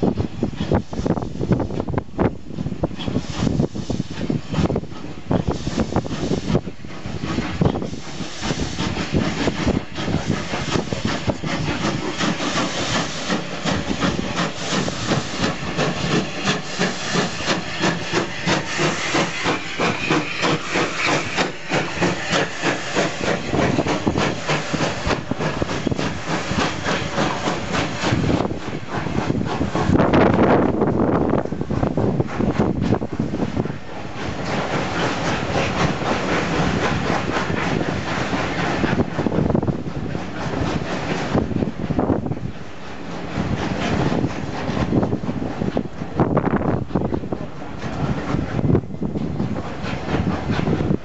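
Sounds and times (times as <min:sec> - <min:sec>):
steam hissing: 0:00.0 - 0:46.2
steam locomotive exhaust beating: 0:00.0 - 0:51.0
train coaches rolling past: 0:00.0 - 0:51.0.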